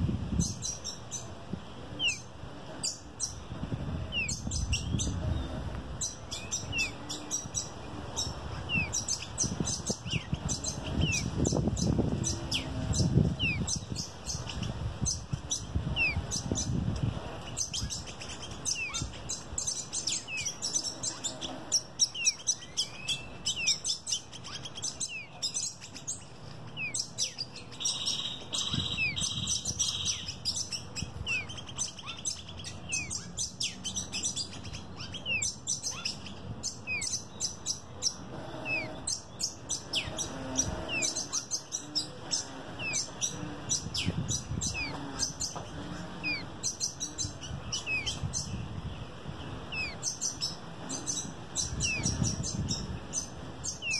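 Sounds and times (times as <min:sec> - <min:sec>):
buzzy bird trill: 0:00.0 - 0:53.9
fledgling bird chirping: 0:00.0 - 0:53.9.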